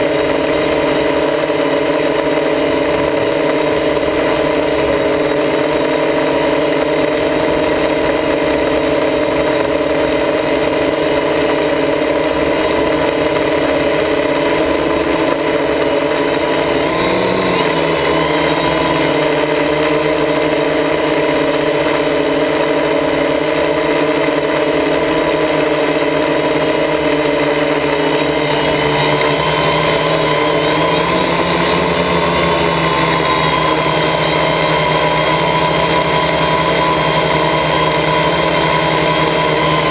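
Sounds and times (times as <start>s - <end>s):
quadcopter motors humming: 0.0s - 39.9s.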